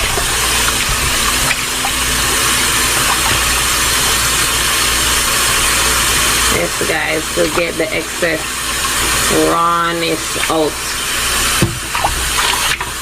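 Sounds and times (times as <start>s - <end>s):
chicken being washed under tap: 0.0s - 13.0s
kitchen tap running: 0.0s - 13.0s.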